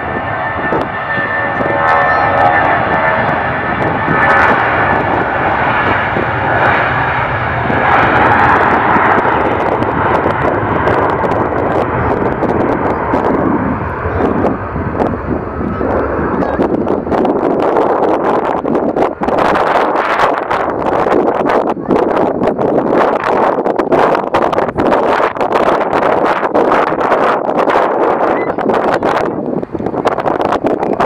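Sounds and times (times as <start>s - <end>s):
jet engine rumble: 0.0s - 31.0s
jet engine whine: 0.0s - 31.0s.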